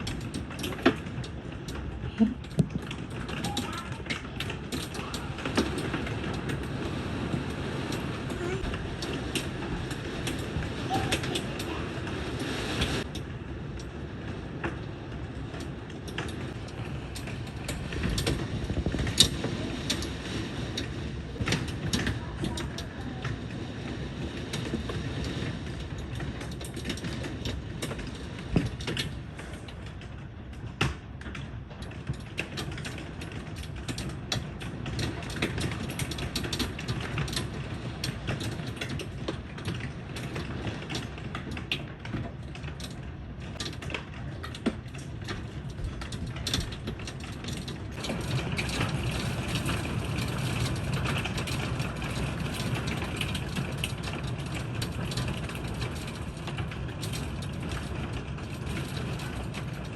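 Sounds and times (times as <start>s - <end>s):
hail and rain pelting surfaces: 0.0s - 59.9s.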